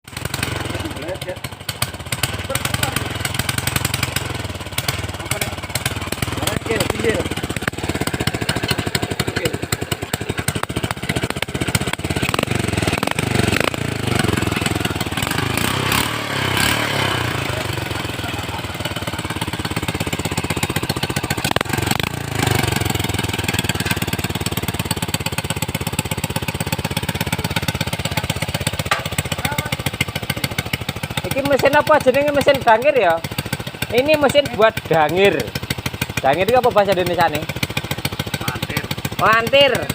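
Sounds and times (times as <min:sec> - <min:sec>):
motorcycle engine pulsing: 0:00.0 - 0:39.9.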